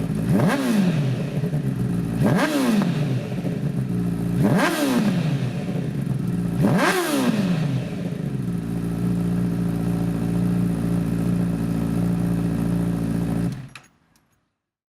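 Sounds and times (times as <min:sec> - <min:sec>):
motorcycle engine revving and idling: 0:00.0 - 0:13.9.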